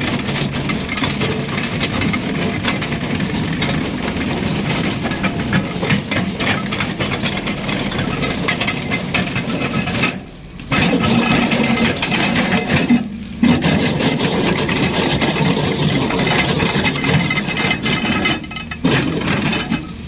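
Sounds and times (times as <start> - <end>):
excavator diesel engine running: 0.0 - 20.0
small rattles and clicks: 0.0 - 20.0.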